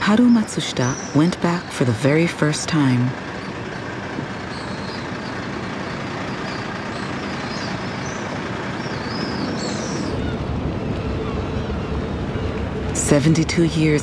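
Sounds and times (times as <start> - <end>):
outdoor background rush: 0.0 - 14.0.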